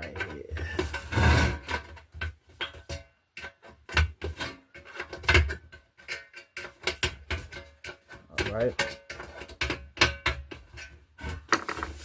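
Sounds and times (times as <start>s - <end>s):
sheet metal clicking and rattling: 1.6s - 11.8s.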